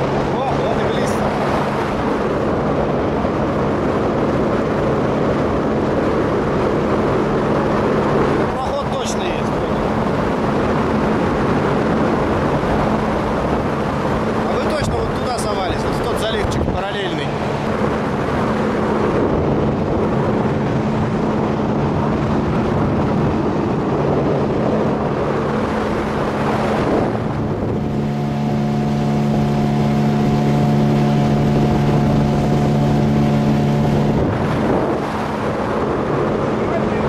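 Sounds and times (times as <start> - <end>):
outboard motor drone: 0.0 - 37.0
rushing water: 0.0 - 37.0
rushing wind: 0.0 - 37.0.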